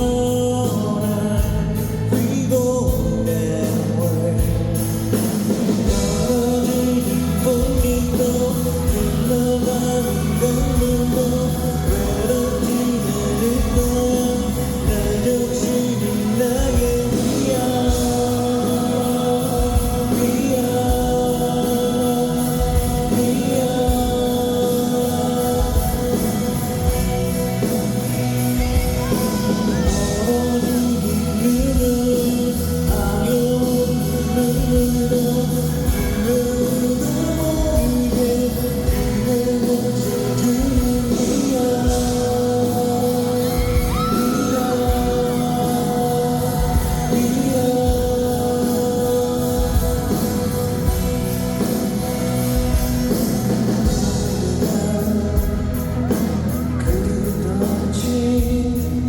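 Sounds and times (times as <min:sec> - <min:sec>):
rock-pop song with singer: 0:00.0 - 0:59.0.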